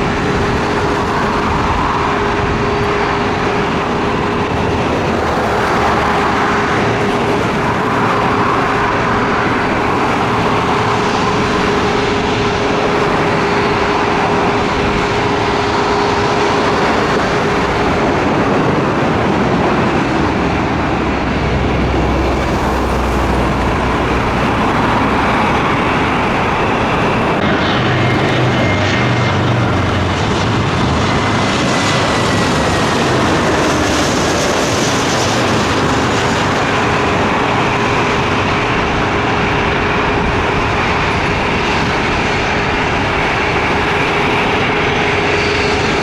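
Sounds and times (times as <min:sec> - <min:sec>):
jet engines roaring: 0:00.0 - 0:46.0.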